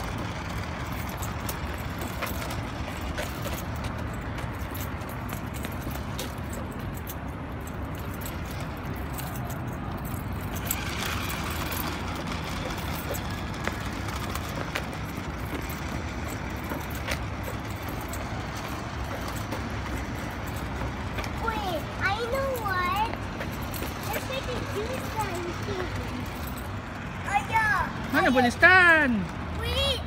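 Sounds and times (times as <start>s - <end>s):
toy car rolling on pavement: 0.0s - 30.0s.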